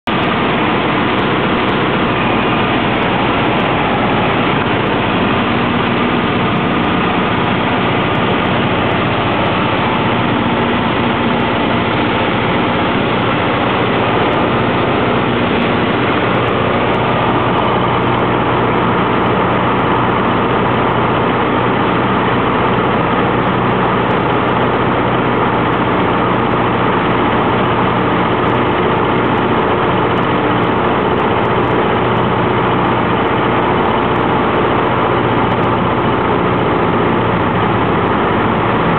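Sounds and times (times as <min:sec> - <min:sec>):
airplane engine and propeller droning: 0:00.0 - 0:38.9
constant rushing noise: 0:00.0 - 0:38.9.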